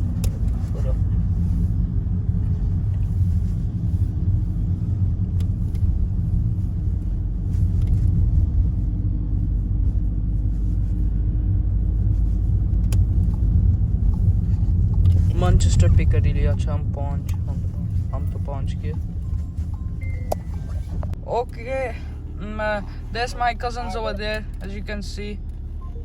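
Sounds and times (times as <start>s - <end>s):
car interior rumble: 0.0s - 26.0s.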